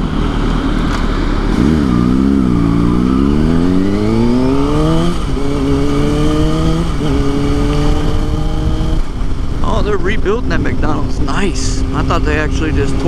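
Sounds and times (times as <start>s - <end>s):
motorcycle engine accelerating: 0.0s - 13.0s
wind noise on microphone: 1.6s - 13.0s.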